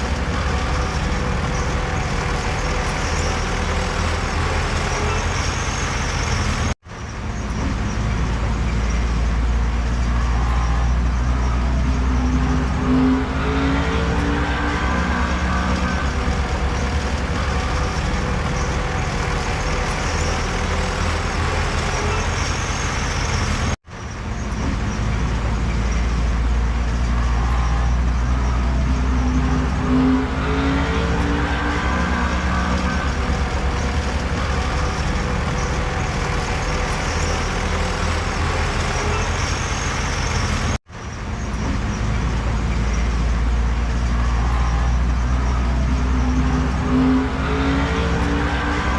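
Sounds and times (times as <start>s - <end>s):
diesel earthmoving machine rumbling: 0.0s - 48.9s.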